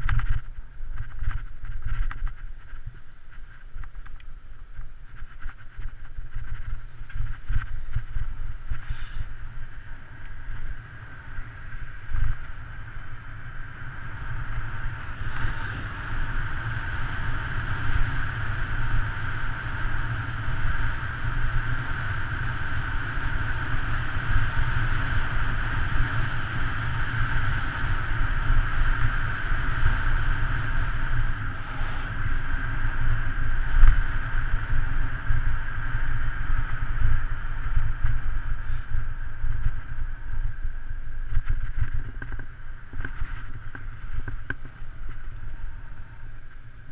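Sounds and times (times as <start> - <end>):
tyre and road hiss: 0.0 - 46.9
wind buffeting microphone: 0.0 - 46.9.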